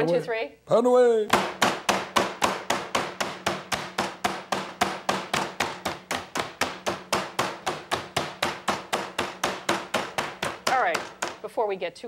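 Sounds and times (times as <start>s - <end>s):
meat mallets pounding chicken: 1.3s - 11.4s.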